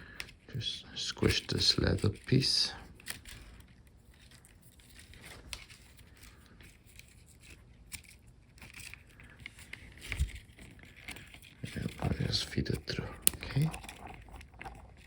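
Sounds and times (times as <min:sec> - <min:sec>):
hands rustling and clicking: 0:01.2 - 0:15.0.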